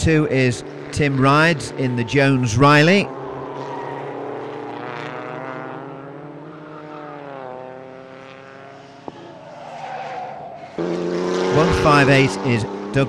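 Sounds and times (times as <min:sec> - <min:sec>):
racing car engine running: 0:00.0 - 0:13.0.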